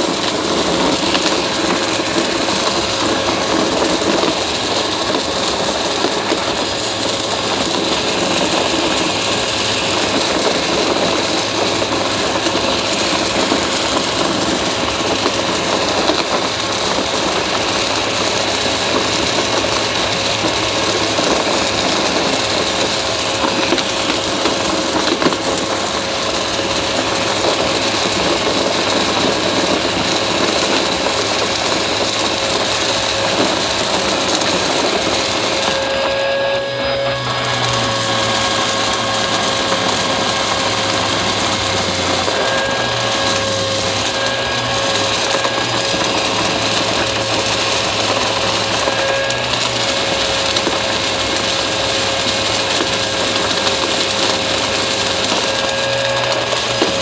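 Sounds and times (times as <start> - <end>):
crunchy debris crackling: 0.0 - 57.0
vacuum cleaner motor whine: 0.0 - 57.0.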